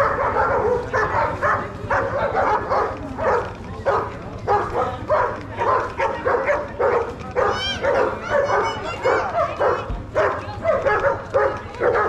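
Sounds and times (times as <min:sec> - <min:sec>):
dog barking: 0:00.0 - 0:12.0.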